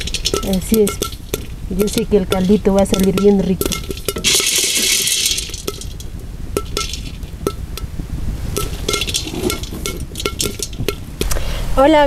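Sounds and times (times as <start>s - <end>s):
dried peas clicking in a pan: 0.0s - 11.4s
peas scraping in a pan: 0.0s - 11.4s.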